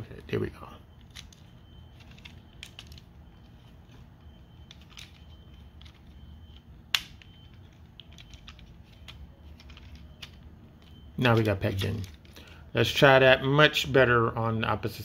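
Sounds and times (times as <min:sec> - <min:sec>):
plastic parts clicking and creaking: 0:00.0 - 0:12.7.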